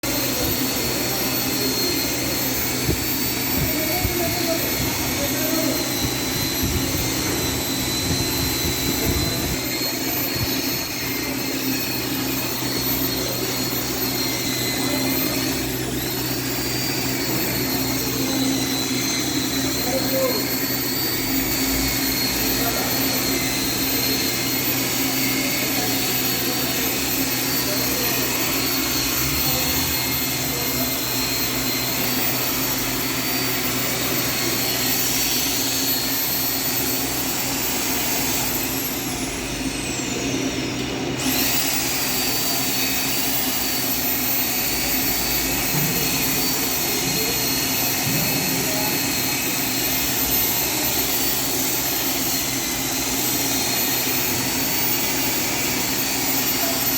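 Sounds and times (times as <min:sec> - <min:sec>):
electric sander motor whine: 0:00.0 - 0:56.9.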